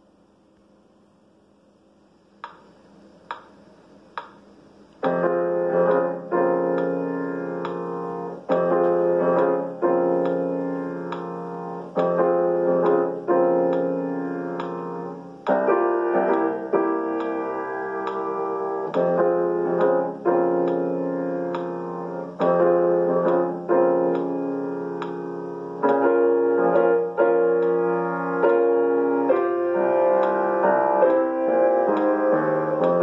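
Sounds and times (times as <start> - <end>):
piano chords: 5.0 - 33.0.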